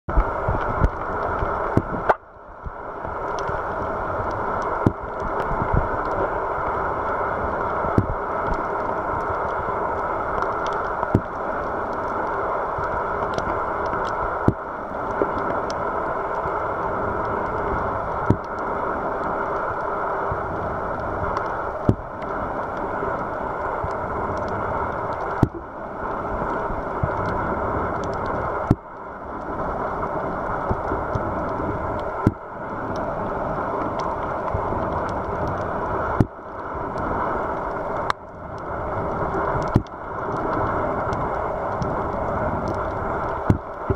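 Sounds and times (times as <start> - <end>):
muffled underwater rush: 0.1 - 43.9.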